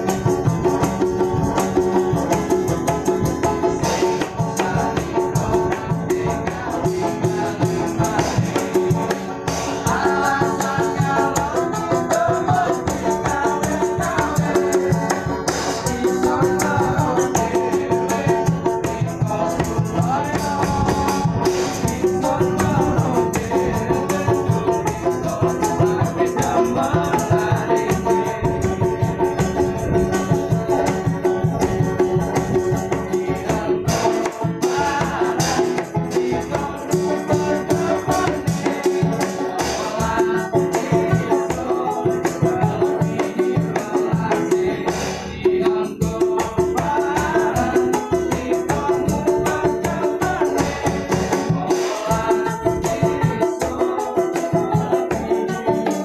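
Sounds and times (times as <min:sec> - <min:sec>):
acoustic guitars strumming: 0:00.0 - 0:56.0
hand drum: 0:00.0 - 0:56.0
tambourine: 0:00.0 - 0:56.0.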